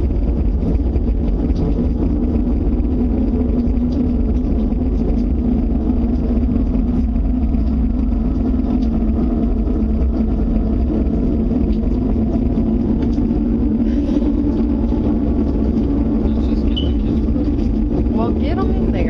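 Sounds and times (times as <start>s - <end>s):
low rumbling drone with hum: 0.0s - 19.0s.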